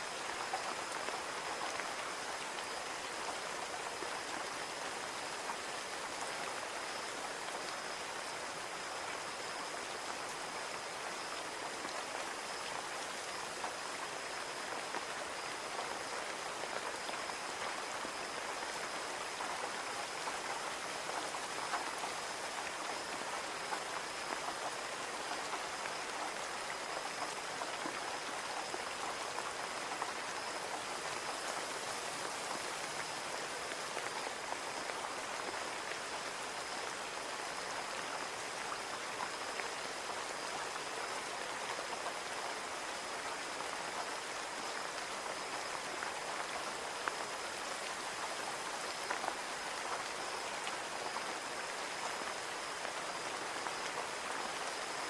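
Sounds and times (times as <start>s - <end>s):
rain on a window: 0.1s - 55.0s.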